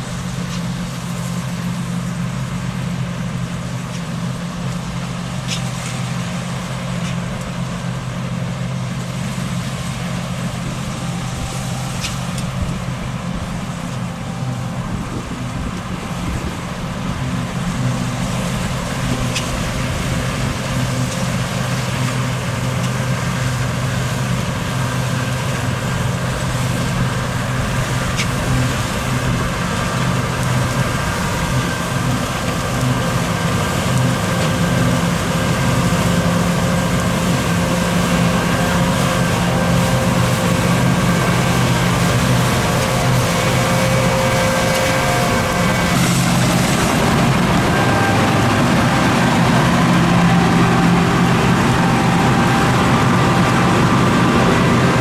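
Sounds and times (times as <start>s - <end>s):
combine harvester engine hum: 0.0s - 55.0s
high machinery whine: 0.0s - 55.0s.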